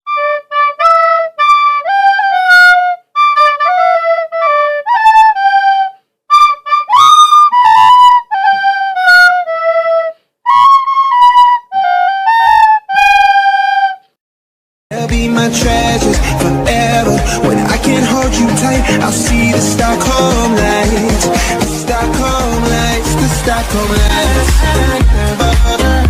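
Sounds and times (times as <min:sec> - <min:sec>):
flute-like melody: 0:00.0 - 0:14.2, 0:15.0 - 0:26.0.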